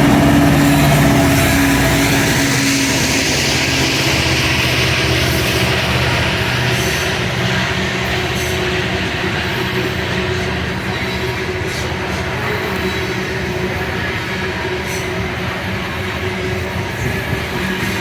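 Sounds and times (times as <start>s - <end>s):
freight train rumbling: 0.0s - 18.0s
wheel noise on rails: 0.0s - 18.0s.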